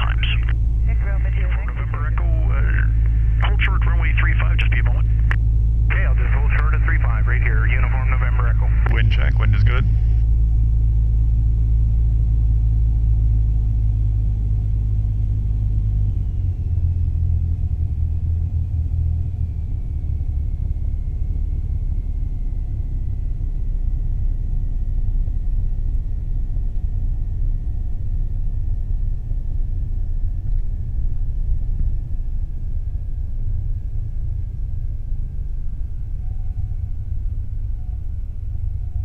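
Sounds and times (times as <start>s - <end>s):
aircraft engine and propeller droning: 0.0s - 39.0s.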